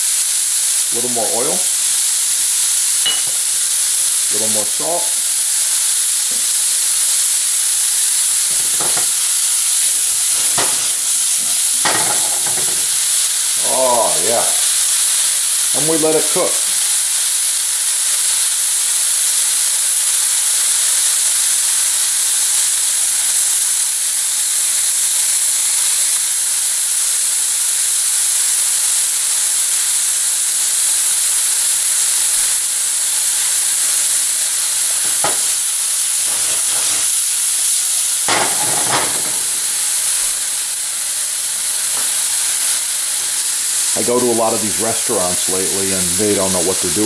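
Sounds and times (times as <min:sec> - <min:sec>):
food sizzling in hot oil: 0:00.0 - 0:47.0.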